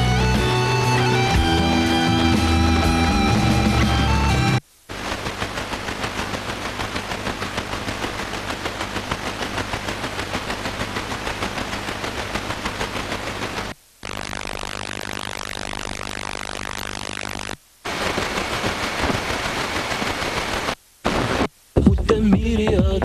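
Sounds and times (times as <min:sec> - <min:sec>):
pulsing radio static hiss: 0:00.0 - 0:21.8.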